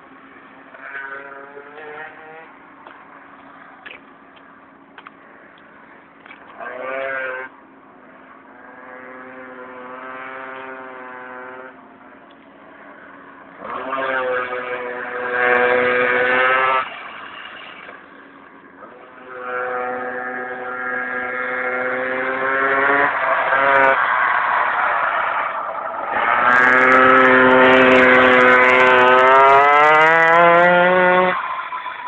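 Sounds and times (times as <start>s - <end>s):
minibike engines buzzing: 0.1s - 24.0s, 26.1s - 32.0s.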